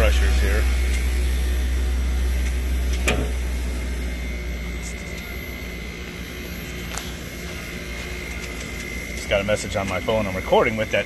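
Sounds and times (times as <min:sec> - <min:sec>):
compressor low hum: 0:00.0 - 0:11.0
steady high whine: 0:00.0 - 0:11.0.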